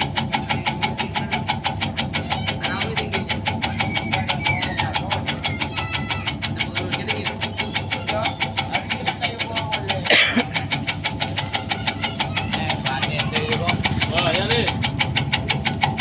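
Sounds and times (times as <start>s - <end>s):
small engine pulsing: 0.0s - 16.0s.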